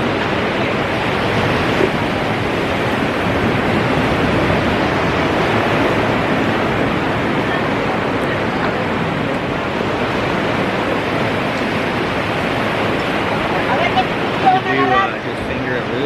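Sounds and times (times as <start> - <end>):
ocean surf washing onto beach: 0.0 - 16.0.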